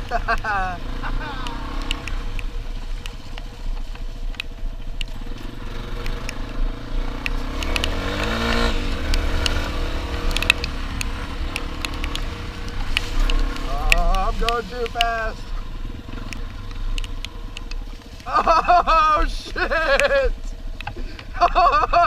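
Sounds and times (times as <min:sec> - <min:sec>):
motorcycle engine revving: 0:00.0 - 0:22.0
sharp ticks and knocks: 0:01.3 - 0:18.4, 0:19.8 - 0:21.8.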